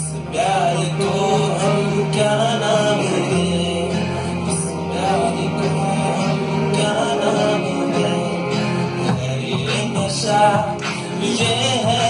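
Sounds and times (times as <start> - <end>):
karaoke backing track: 0.0 - 12.0
man singing into a microphone: 0.0 - 12.0.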